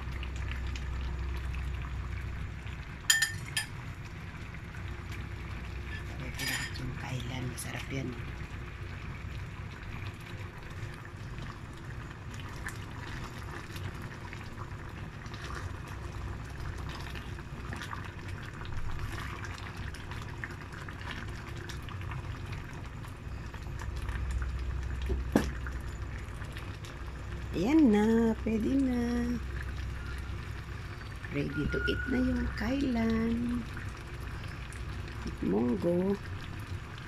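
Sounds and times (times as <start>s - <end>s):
stew bubbling in a pot: 0.0s - 37.0s.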